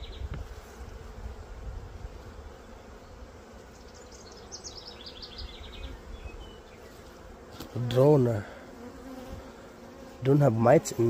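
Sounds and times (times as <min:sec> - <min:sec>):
honey bees buzzing: 0:00.0 - 0:11.0.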